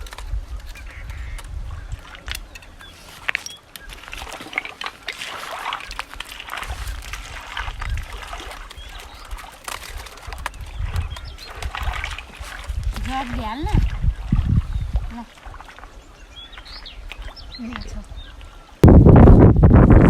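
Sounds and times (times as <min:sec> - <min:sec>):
water splashing in river: 0:00.8 - 0:18.8.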